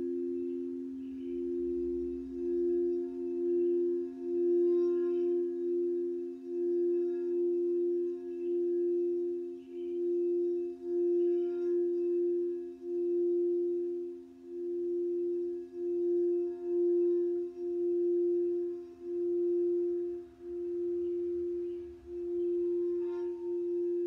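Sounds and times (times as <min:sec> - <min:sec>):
lower singing bowl tone: 0:00.0 - 0:24.0
singing bowl sustained tone: 0:00.0 - 0:24.0.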